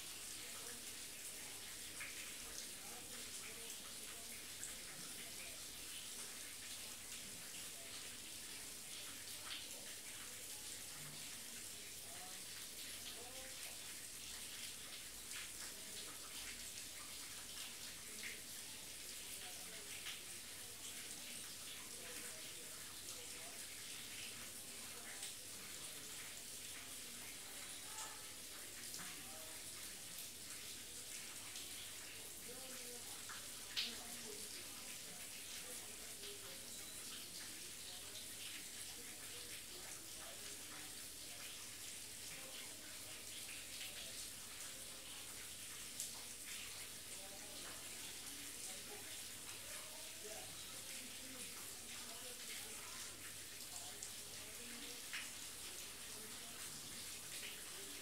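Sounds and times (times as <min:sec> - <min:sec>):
pattering drips: 0:00.0 - 0:58.0
steady rain: 0:00.0 - 0:58.0.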